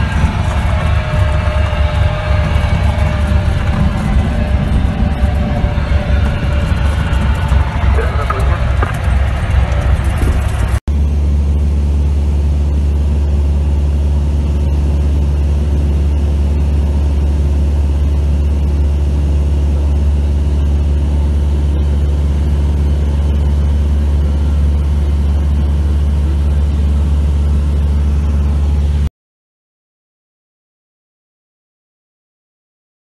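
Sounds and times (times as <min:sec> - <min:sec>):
propeller aircraft cabin drone: 0:00.0 - 0:29.1.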